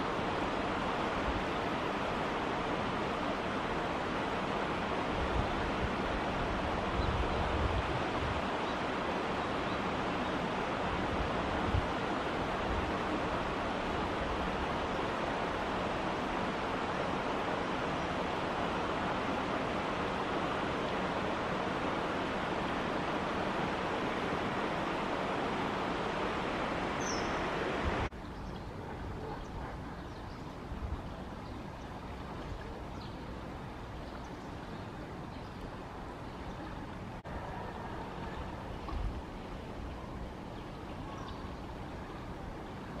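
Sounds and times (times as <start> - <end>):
stream water running: 0.0 - 43.0.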